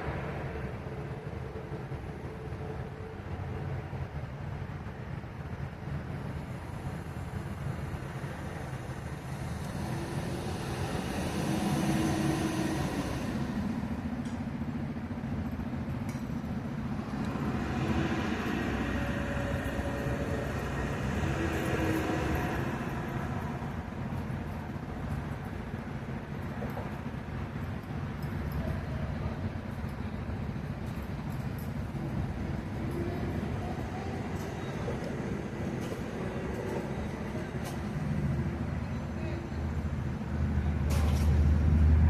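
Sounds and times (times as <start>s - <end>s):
heavy vehicle engines rumbling: 0.0s - 42.0s
road traffic: 0.0s - 42.0s.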